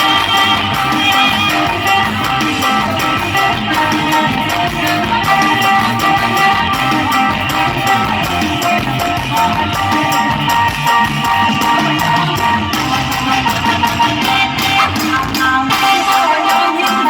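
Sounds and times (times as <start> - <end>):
drum kit beat: 0.0 - 17.0.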